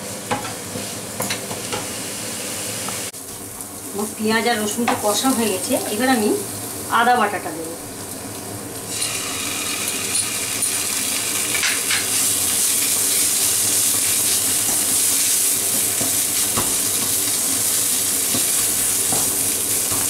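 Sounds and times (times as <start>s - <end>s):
pastes sizzling in hot oil: 0.0s - 20.0s.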